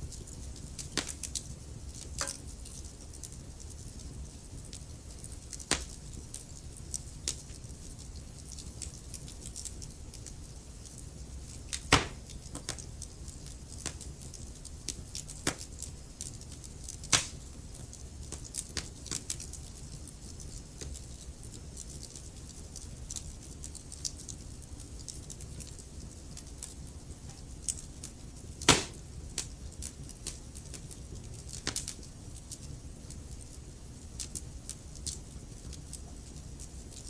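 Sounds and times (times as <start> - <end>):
low rumble of flames: 0.0 - 37.0
wood fire crackling: 0.0 - 37.0.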